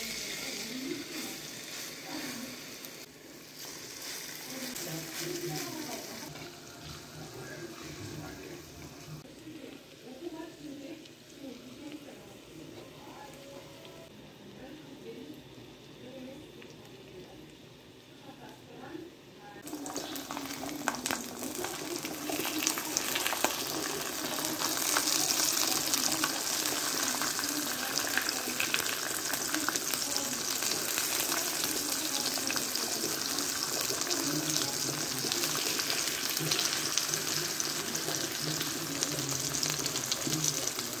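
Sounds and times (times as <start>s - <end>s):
fish sizzling in a frying pan: 0.0s - 13.4s, 19.6s - 41.0s.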